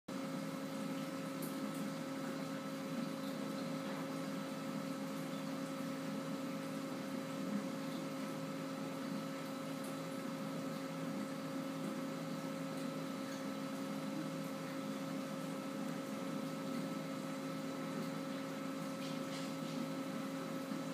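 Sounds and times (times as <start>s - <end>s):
aquarium pump hum: 0.1s - 20.9s.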